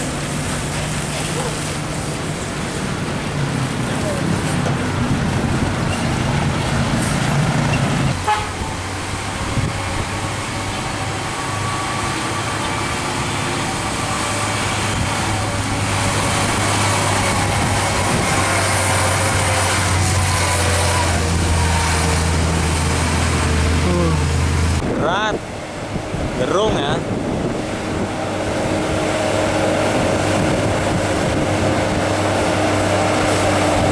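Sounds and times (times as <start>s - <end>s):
diesel trucks passing: 0.0s - 33.9s.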